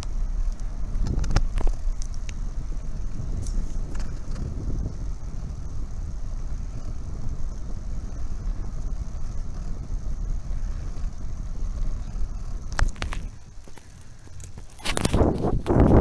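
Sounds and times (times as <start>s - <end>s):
bicycle tyres rolling on pavement: 0.0s - 16.0s
wind buffeting microphone: 0.0s - 16.0s.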